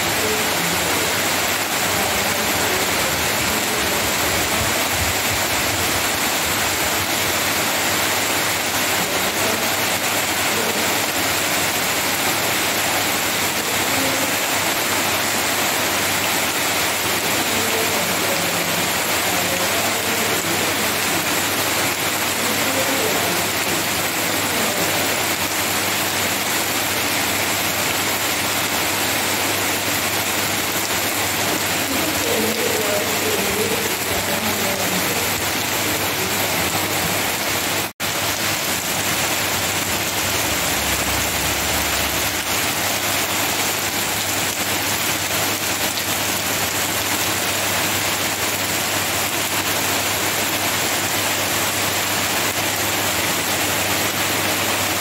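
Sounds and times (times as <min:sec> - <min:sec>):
rain on leaves and ground: 0:00.0 - 0:55.0.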